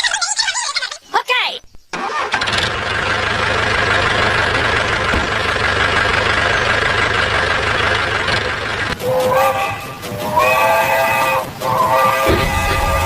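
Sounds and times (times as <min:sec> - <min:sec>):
engine rumbling: 0:01.7 - 0:13.0.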